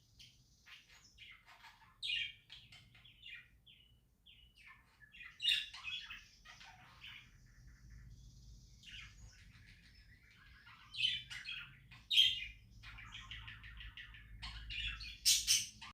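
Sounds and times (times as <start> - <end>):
sharp bird calls: 0.0 - 15.9
budgerigars chirping: 0.2 - 15.9.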